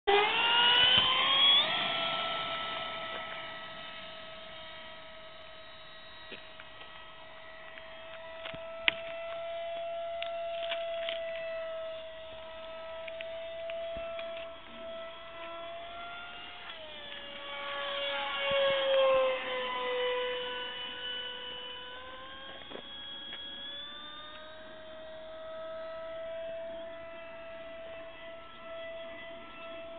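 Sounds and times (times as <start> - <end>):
model plane electric motor whining: 0.1 - 29.9.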